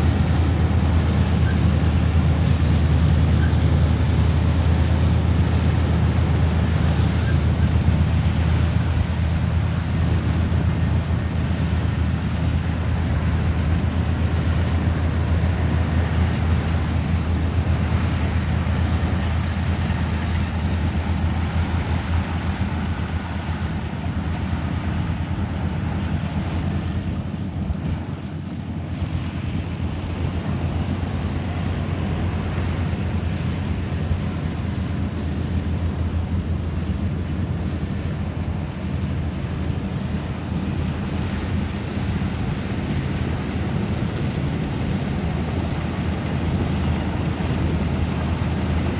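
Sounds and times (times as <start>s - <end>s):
combine harvester engine drone: 0.0s - 48.9s
constant rushing noise: 0.0s - 48.9s.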